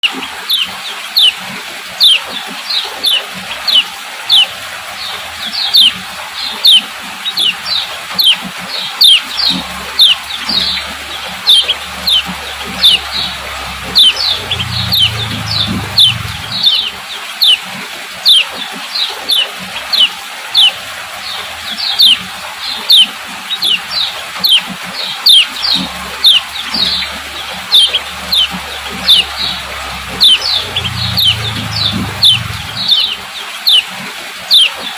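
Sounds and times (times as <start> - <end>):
bird chirping: 0.0 - 1.4, 2.0 - 17.6, 18.2 - 33.9, 34.5 - 34.8.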